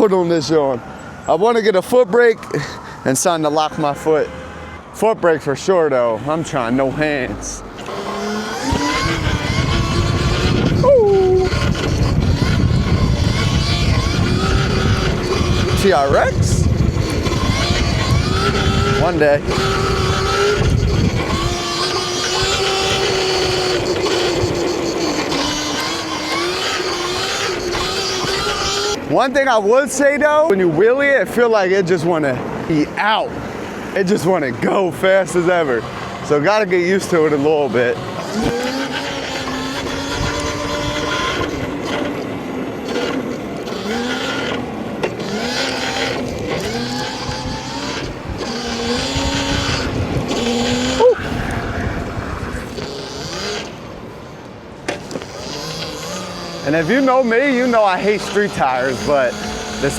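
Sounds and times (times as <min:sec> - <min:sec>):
wind and road noise: 0:00.0 - 0:59.9
electric motor whining: 0:06.2 - 0:29.1, 0:32.6 - 0:59.9.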